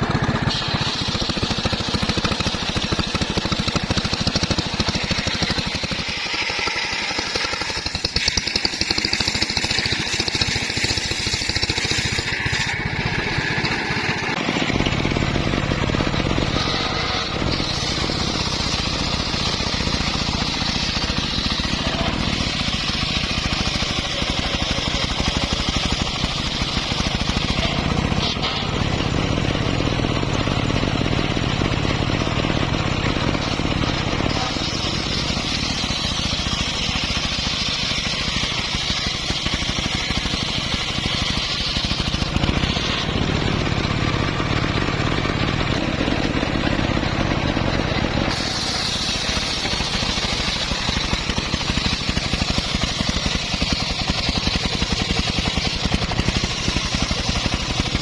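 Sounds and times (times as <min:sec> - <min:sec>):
band saw motor hum: 0:00.0 - 0:58.0
saw blade whining in wood: 0:00.0 - 0:58.0.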